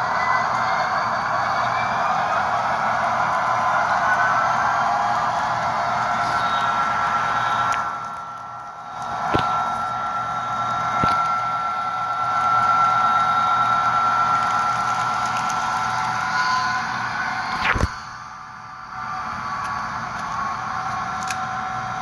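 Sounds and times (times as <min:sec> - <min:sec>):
model locomotive diesel sounds: 0:00.0 - 0:22.0.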